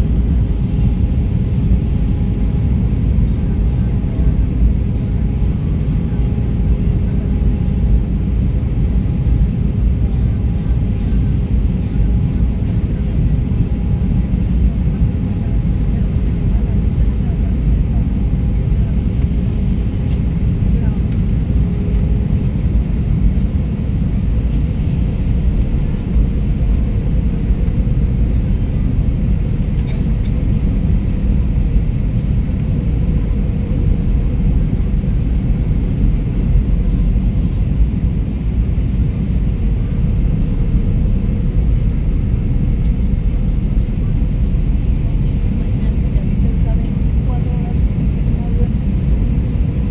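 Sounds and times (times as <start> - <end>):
jet engine rumble in cabin: 0.0 - 49.9.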